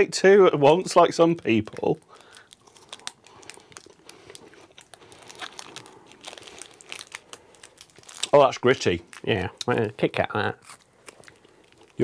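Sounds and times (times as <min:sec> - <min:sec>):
chocolate bar crunching: 0:00.6 - 0:12.0
wrapper crinkling: 0:00.6 - 0:12.0.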